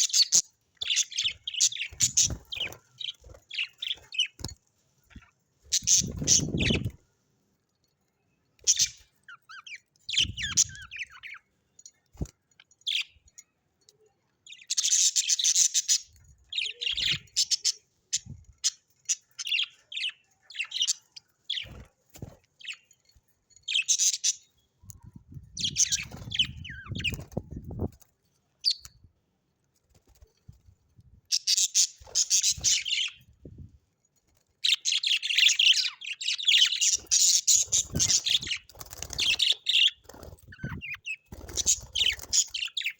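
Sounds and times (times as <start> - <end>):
birds chirping and chattering: 0.0 - 33.7, 34.3 - 42.9.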